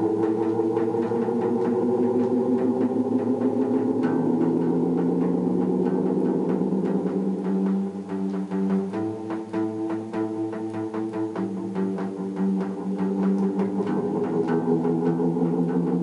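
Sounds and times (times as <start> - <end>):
strummed effected guitar chords: 0.0 - 16.0.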